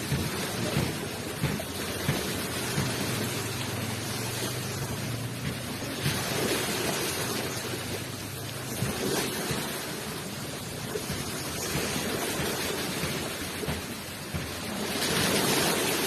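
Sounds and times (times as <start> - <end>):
ocean waves rushing onto shore: 0.0 - 16.0.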